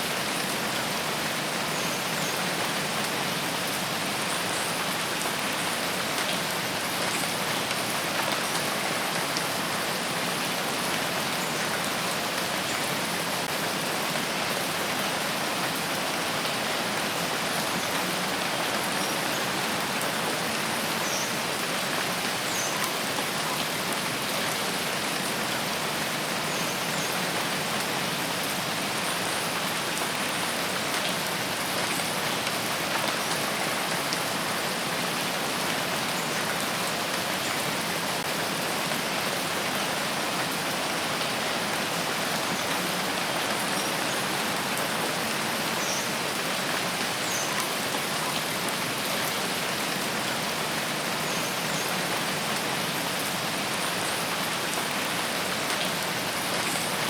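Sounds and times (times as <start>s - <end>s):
rain falling on forest: 0.0s - 57.0s.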